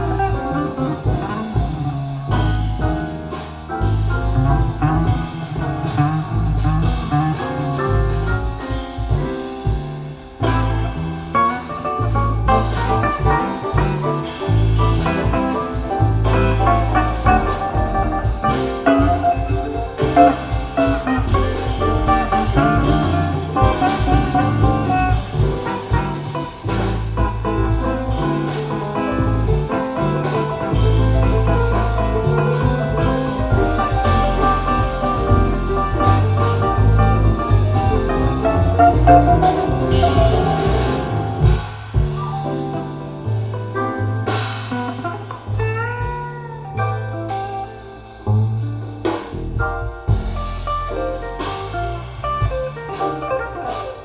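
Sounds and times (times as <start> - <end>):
horns: 0.0 - 43.3
bass line: 0.0 - 54.0.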